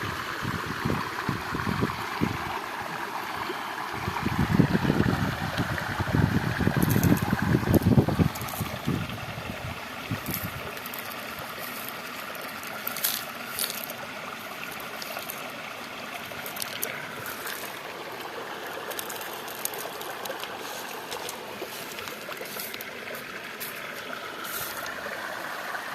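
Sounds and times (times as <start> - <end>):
water rushing at waterfall: 0.0 - 25.9.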